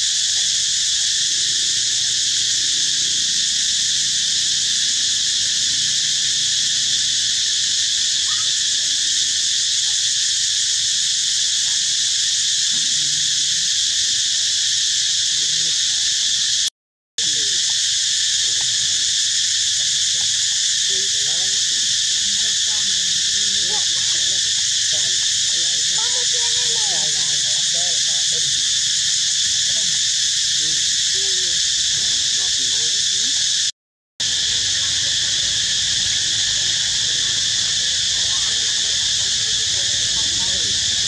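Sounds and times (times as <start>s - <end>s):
insect chorus buzzing: 0.0s - 41.0s.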